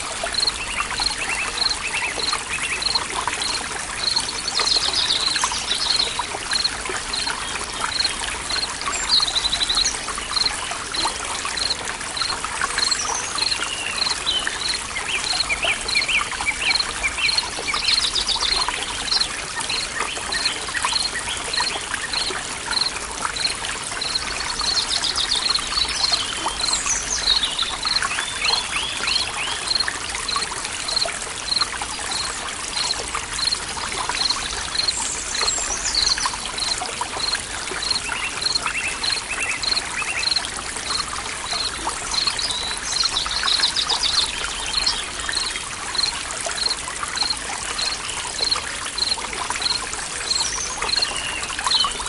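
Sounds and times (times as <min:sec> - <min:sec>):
stream trickling: 0:00.0 - 0:52.0.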